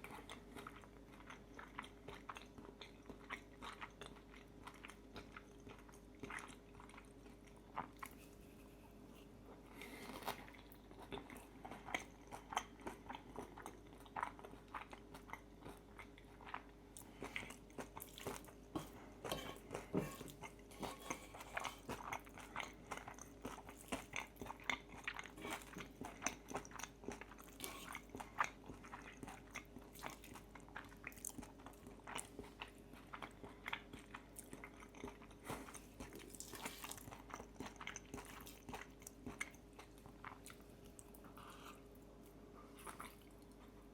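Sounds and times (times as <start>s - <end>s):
crunching and chewing food: 0.0s - 43.9s.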